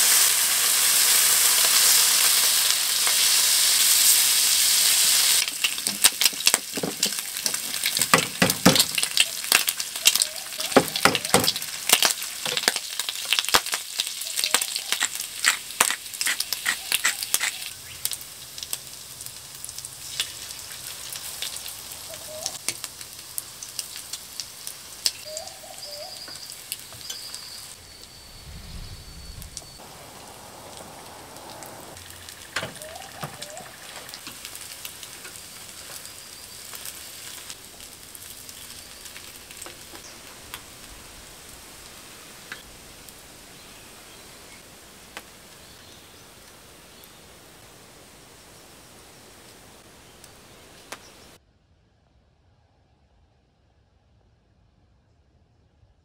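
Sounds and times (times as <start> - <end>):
food frying in a pan: 0.0 - 28.2, 29.6 - 47.3.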